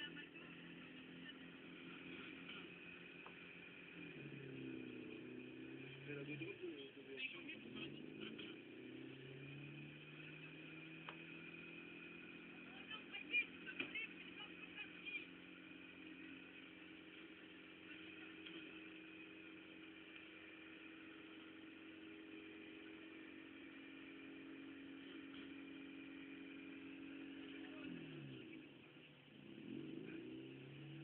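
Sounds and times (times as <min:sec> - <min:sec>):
faint car engine revving: 0:00.0 - 0:31.0.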